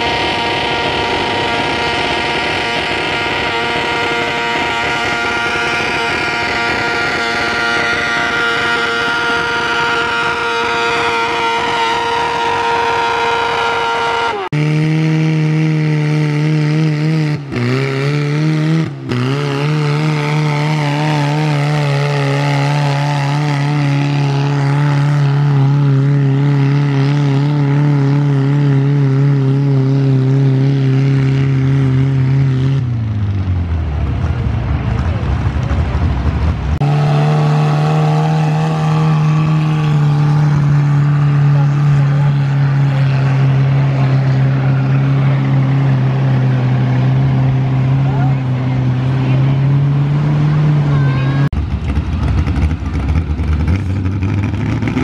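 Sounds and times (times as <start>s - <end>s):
garden tractor engine revving: 0.0s - 32.9s, 36.8s - 51.0s.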